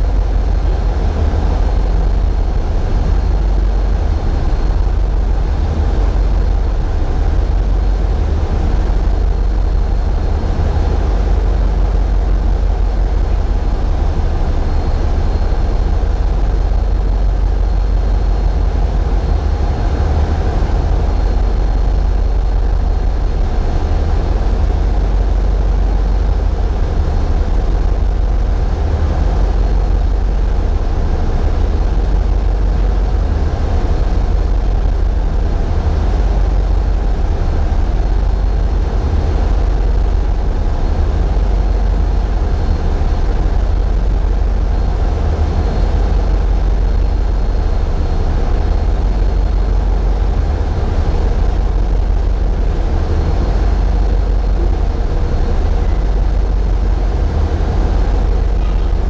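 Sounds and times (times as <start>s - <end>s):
boat engines rumbling: 0.0s - 59.0s
faint high whine: 0.0s - 59.0s.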